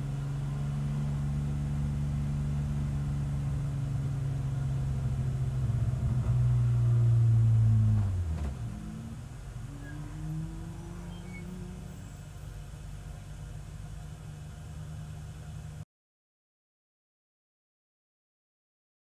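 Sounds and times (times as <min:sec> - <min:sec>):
race car engine from inside: 0:00.0 - 0:15.8.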